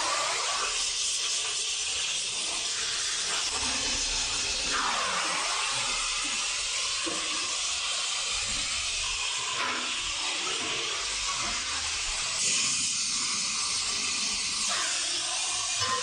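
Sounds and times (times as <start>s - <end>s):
welding torch flame hissing: 0.0s - 16.0s.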